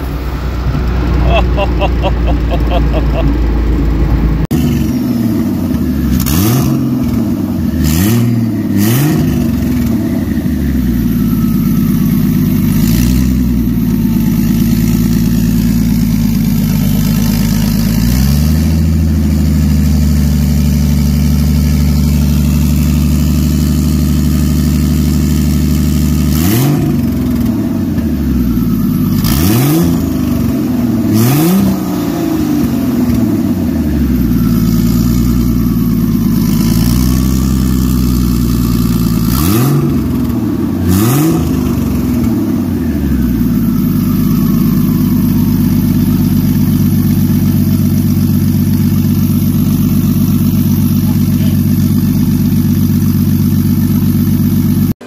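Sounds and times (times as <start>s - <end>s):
car engine idling: 0.0s - 55.0s
car engine revving: 0.0s - 55.0s.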